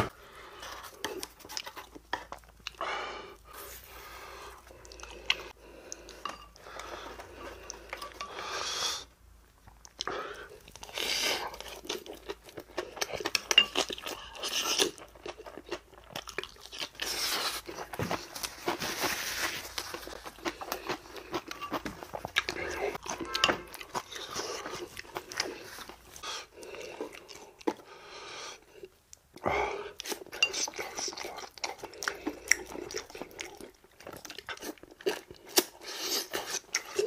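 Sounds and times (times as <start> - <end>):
crunching and chewing: 3.4 - 8.4, 9.5 - 27.9, 28.6 - 37.0.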